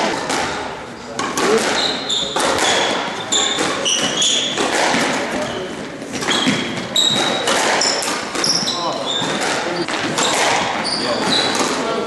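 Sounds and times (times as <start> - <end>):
squash ball knocks: 0.0 - 12.0
shoes squeaking on wooden court: 0.5 - 12.0.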